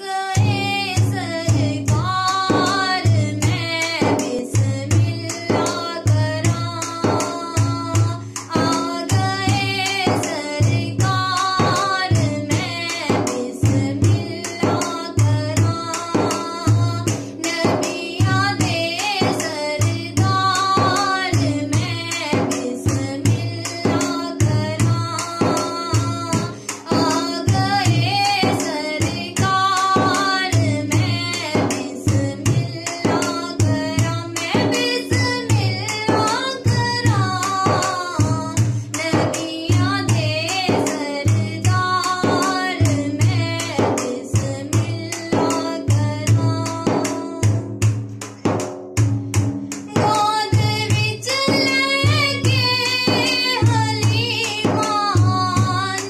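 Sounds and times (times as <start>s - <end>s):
song with singing over drums: 0.0s - 56.0s.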